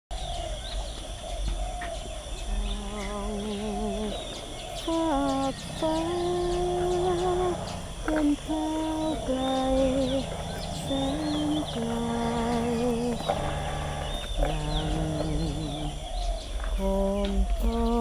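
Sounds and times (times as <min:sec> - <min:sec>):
bird chirps: 0:00.1 - 0:18.0
high insect-like drone: 0:00.2 - 0:18.0
person singing slow melody: 0:02.5 - 0:18.0.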